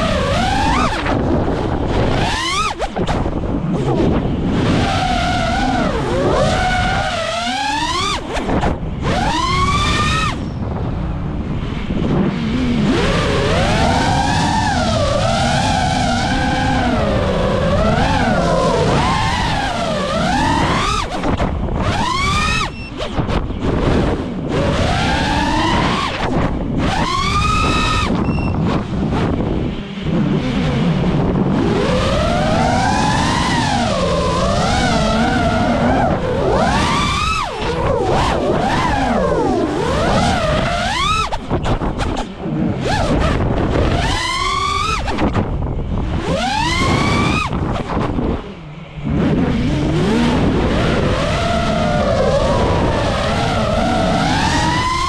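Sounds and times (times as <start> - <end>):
drone motors whining: 0.0 - 55.0
rushing air: 0.0 - 55.0.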